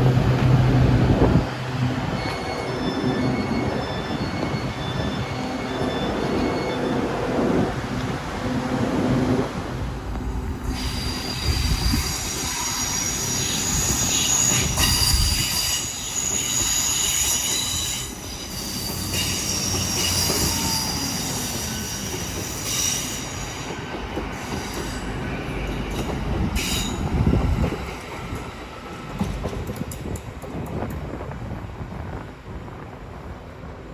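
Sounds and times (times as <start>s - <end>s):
train wheels squealing on rails: 0.1s - 9.2s, 10.4s - 31.2s.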